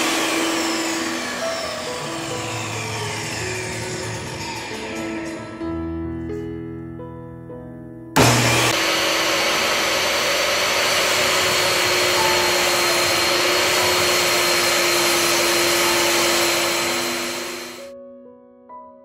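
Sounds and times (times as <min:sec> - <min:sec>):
table saw running: 0:00.0 - 0:05.9, 0:08.2 - 0:17.9.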